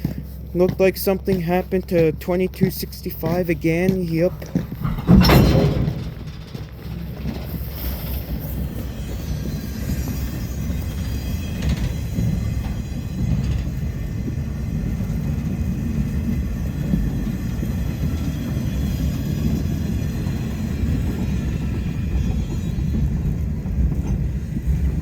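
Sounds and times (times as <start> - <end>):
diesel locomotive rumbling: 0.0 - 25.0.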